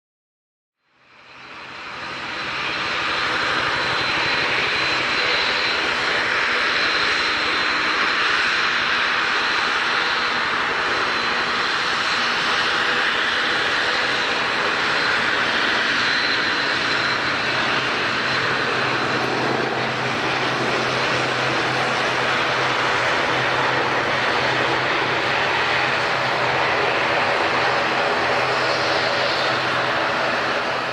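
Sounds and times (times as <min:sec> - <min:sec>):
airliner engines running: 0:00.8 - 0:30.9.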